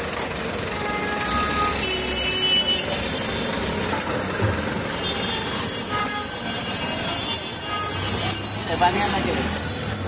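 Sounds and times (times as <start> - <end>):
passing motor traffic rumble: 0.0 - 10.0.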